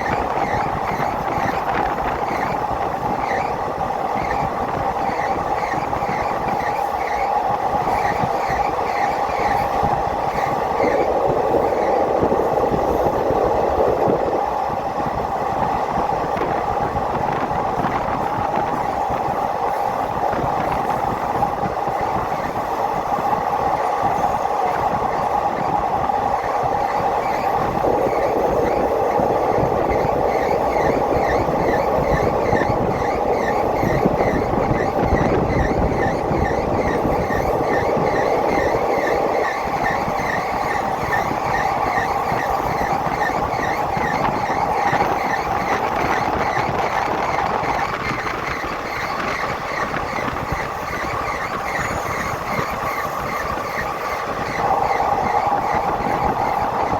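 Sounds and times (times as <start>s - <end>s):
train wheels rumbling on rail: 0.0s - 56.9s.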